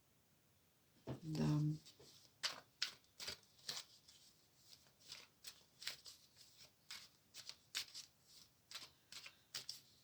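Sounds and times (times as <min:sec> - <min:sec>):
cards being shuffled: 0:01.8 - 0:10.0.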